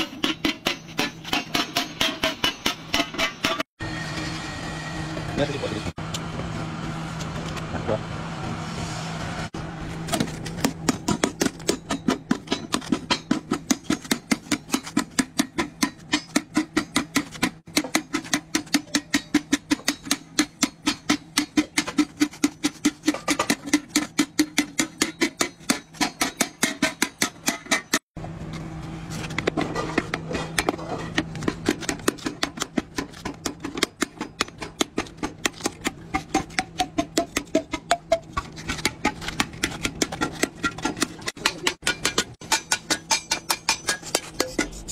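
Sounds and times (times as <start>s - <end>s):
hammer beating iron wok on anvil: 0.0s - 3.7s, 10.6s - 28.1s, 29.8s - 44.9s.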